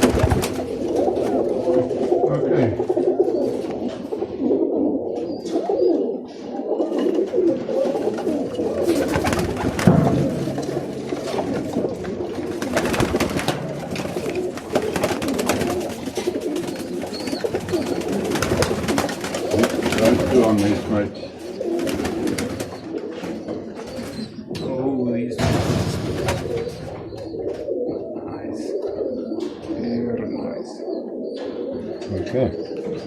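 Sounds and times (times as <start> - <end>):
birds clicking and rustling: 0.0 - 33.0
pigeons cooing: 0.0 - 33.0.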